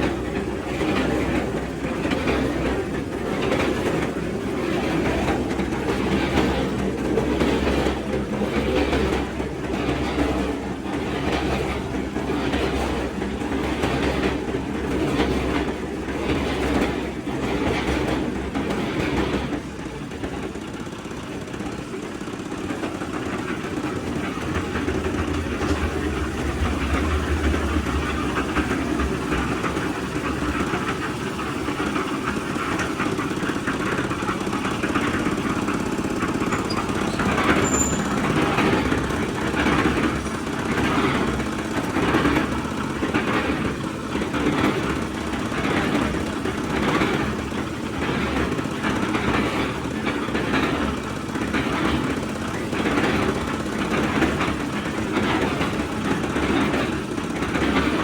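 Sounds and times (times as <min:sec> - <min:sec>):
construction machinery rumbling: 0:00.0 - 0:58.0
rhythmic clatter: 0:00.0 - 0:58.0.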